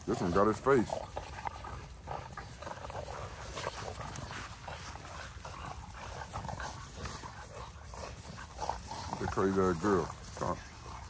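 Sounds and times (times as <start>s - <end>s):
dogs scuffling: 0.0s - 11.0s.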